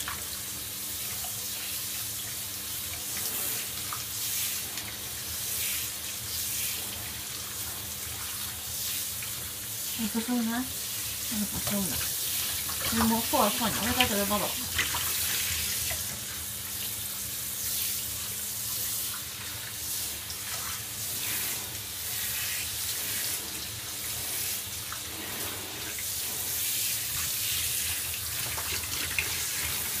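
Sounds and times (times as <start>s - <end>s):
shower spray hissing: 0.0s - 30.0s.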